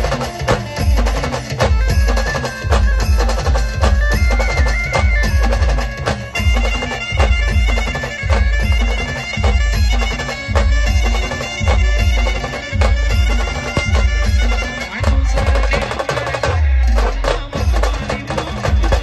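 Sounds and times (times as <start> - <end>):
reedy wind instrument melody: 0.0 - 16.1
heavy drum beats: 0.0 - 19.0
sharp percussion strikes: 0.0 - 19.0.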